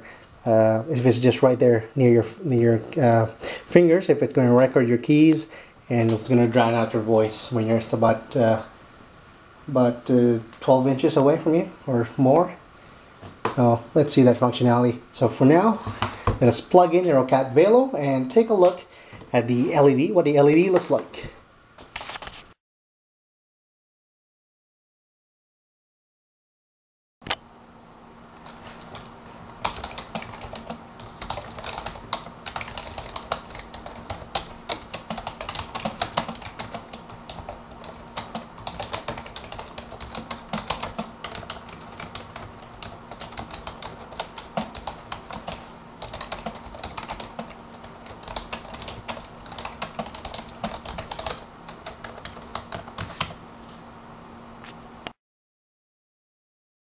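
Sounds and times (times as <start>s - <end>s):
faint steady hum: 0.0s - 22.6s, 27.3s - 55.2s.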